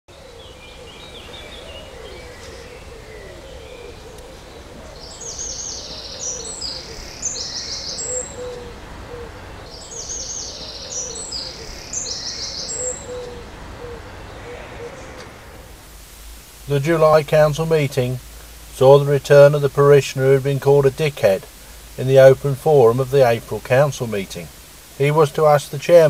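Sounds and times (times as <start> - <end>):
outdoor background: 0.1 - 26.0
soft low bird calls: 0.1 - 26.0
songbird trilling: 0.2 - 26.0.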